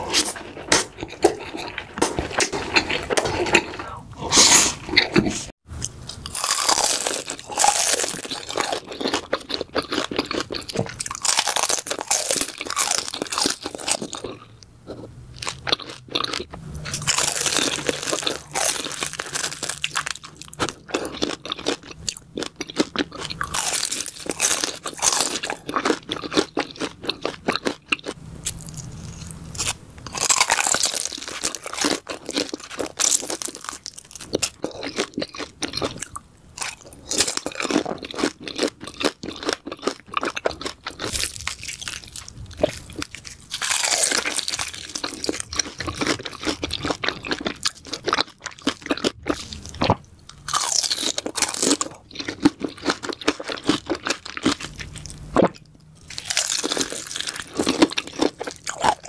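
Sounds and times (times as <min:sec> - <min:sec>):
crunching of crispy fried food: 0:00.0 - 0:03.8, 0:05.8 - 0:59.0.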